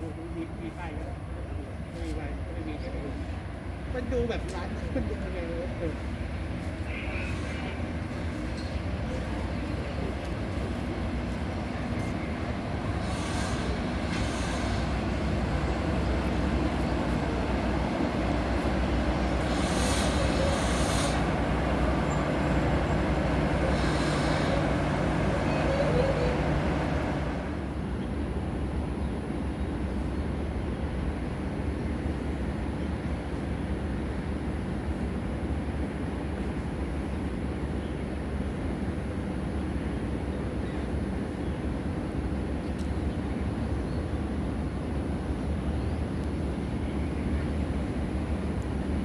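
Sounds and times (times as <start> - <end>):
diesel train engine hum: 0.0 - 49.0
rail noise: 0.0 - 49.0.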